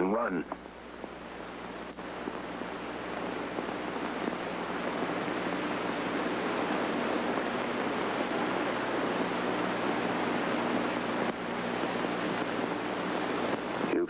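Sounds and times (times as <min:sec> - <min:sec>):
old television audio hiss: 0:00.0 - 0:14.0.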